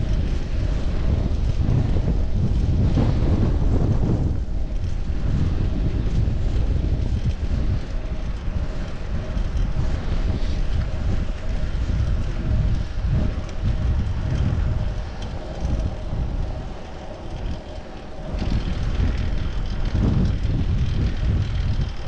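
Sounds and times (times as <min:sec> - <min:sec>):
faint steady hum: 0:00.0 - 0:22.0
wind buffeting microphone: 0:00.0 - 0:22.0.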